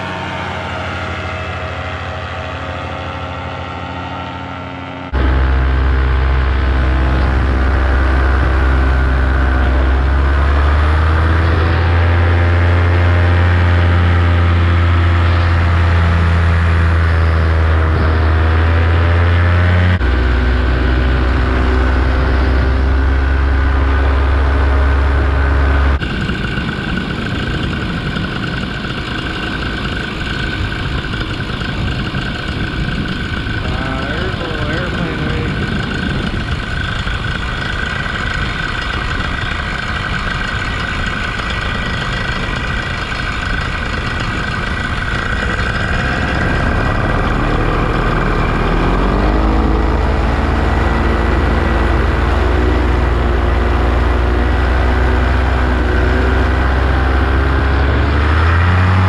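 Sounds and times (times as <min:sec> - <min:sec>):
paramotor engine running: 0:00.0 - 0:59.0.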